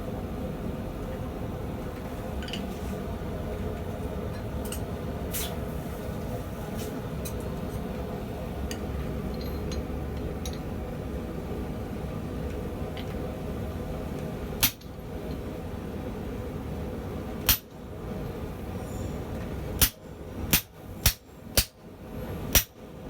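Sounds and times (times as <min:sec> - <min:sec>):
forge burner roaring: 0:00.0 - 0:23.0.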